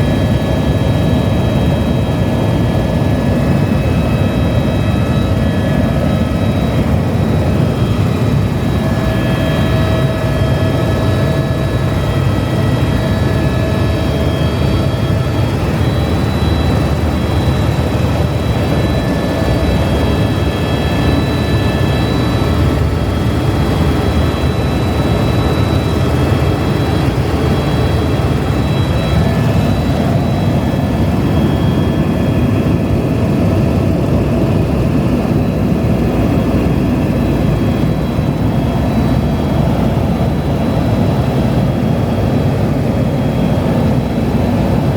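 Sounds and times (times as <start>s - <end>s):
helicopter engine and rotor: 0.0s - 44.9s.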